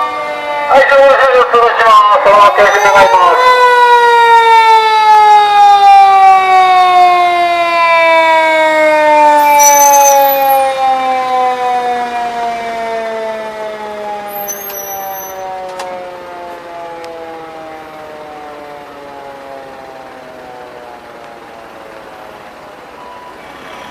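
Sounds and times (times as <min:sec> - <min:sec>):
fire engine siren winding down: 0:00.0 - 0:23.9.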